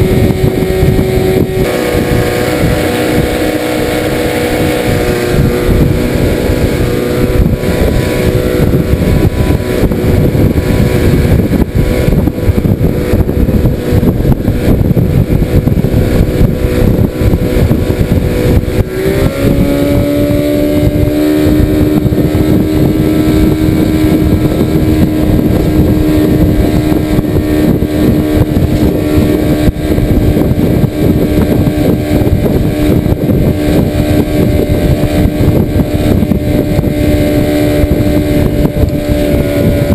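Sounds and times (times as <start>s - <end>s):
outboard motor running: 0.0s - 39.9s
wind and water rushing: 0.0s - 39.9s.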